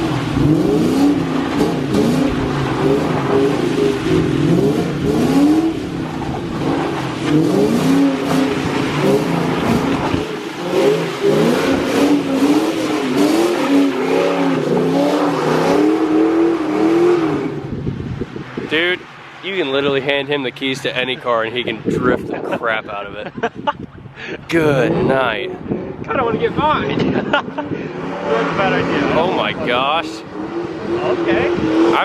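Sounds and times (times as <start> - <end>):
car engine revving: 0.0 - 23.3, 24.5 - 32.0.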